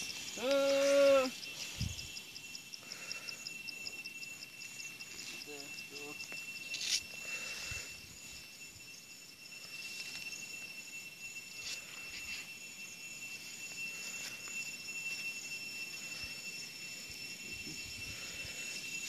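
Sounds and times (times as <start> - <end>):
fast pulsing insect chirp: 0.0 - 19.0
insects chirring: 0.0 - 19.0.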